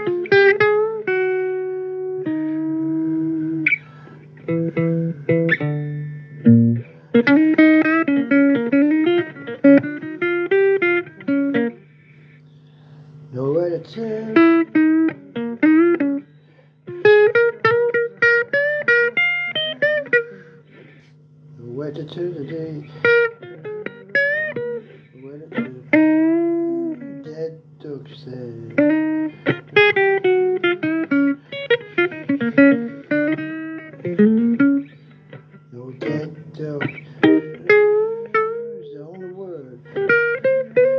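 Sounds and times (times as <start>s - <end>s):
blues guitar plucked notes: 0.0s - 12.4s, 13.6s - 27.7s, 28.4s - 40.9s
steady low hum: 0.0s - 40.9s.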